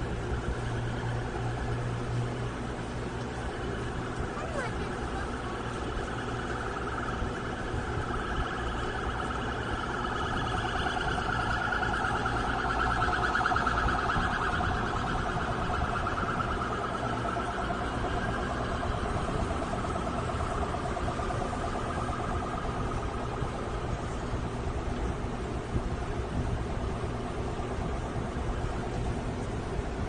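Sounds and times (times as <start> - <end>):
emergency siren warbling: 0.0 - 30.0
traffic rumble: 0.0 - 30.0
wind: 0.0 - 30.0.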